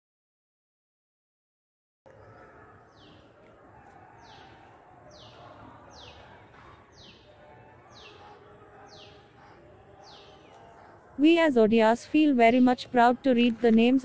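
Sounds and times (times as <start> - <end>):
faint outdoor background noise: 2.1 - 14.0.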